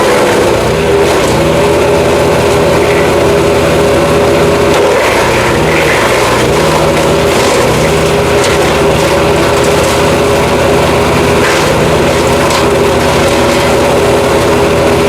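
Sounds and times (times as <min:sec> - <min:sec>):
wood chipper chipping wood: 0:00.0 - 0:15.0.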